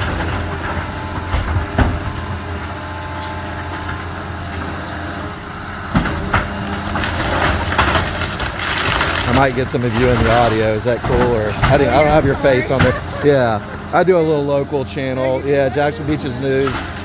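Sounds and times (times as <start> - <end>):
diesel engine of demolition machinery: 0.0 - 17.0
house cracking and crunching: 0.0 - 17.0.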